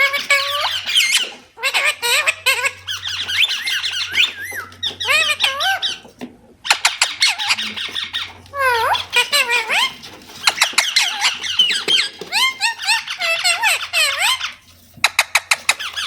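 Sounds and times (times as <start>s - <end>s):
parrot chirps and squawks: 0.0s - 16.0s.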